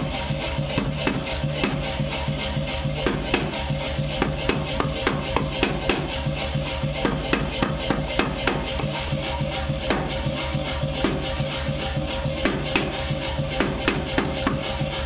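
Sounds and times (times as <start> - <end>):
background music with held notes: 0.0 - 15.0.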